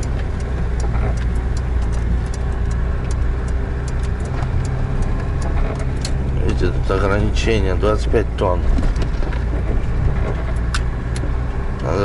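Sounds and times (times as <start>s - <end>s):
light clicks and rattles: 0.0s - 12.0s
road noise: 0.0s - 12.0s
van engine drone: 0.0s - 12.0s.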